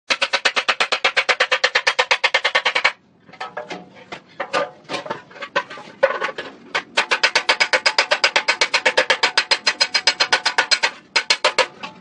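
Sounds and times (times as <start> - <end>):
hammer striking metal panel: 0.1 - 12.0.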